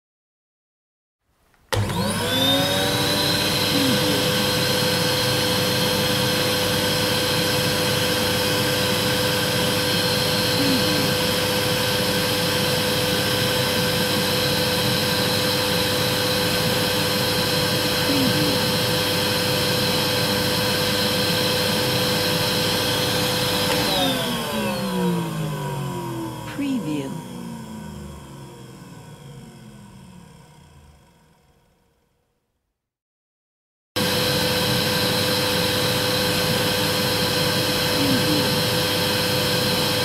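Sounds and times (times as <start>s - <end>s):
vacuum cleaner motor whining: 1.7s - 31.7s, 34.0s - 40.0s.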